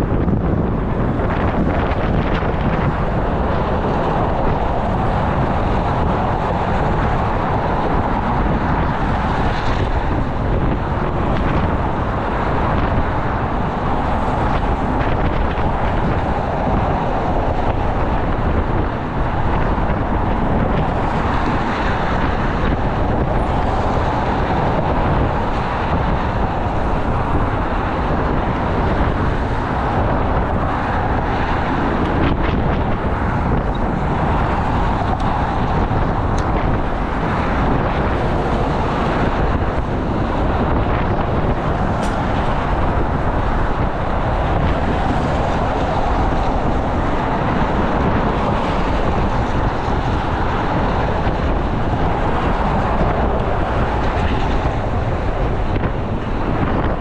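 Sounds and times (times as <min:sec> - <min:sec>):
road traffic noise: 0:00.0 - 0:57.0
wind rumbling on microphone: 0:00.0 - 0:57.0.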